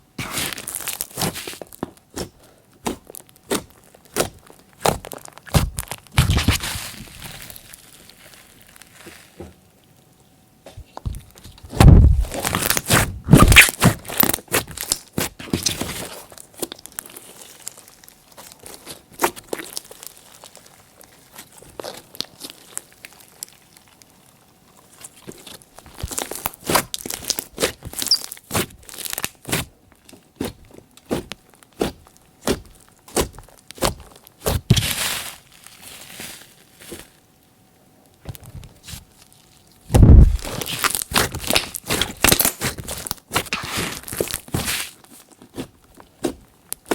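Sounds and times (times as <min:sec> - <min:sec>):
slime crackling and popping: 0:00.2 - 0:09.4, 0:11.3 - 0:37.2, 0:39.0 - 0:46.9.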